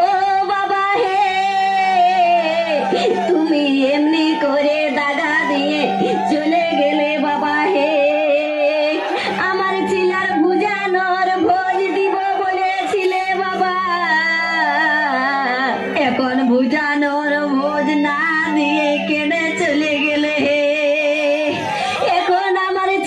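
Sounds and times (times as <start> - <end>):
woman singing wavering pitch: 0.0 - 23.0.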